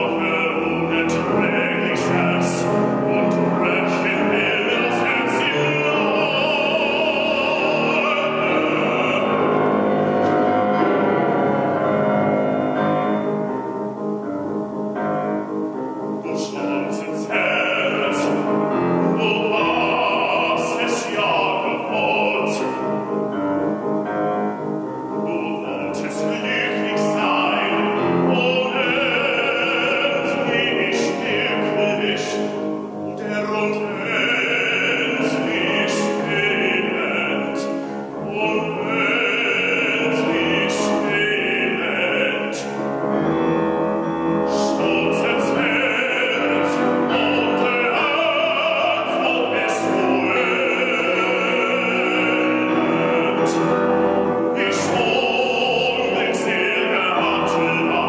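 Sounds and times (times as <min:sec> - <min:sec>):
man singing operatically: 0:00.0 - 0:13.5, 0:16.1 - 0:24.0, 0:24.6 - 0:58.0
grand piano: 0:00.0 - 0:58.0.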